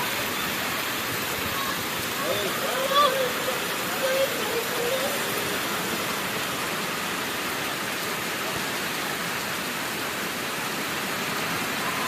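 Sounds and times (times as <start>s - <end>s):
pouring rain: 0.0s - 12.0s.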